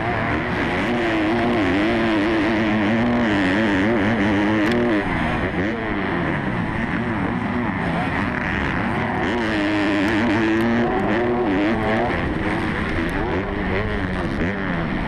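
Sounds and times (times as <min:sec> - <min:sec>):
motocross bike engine racing: 0:00.0 - 0:15.0.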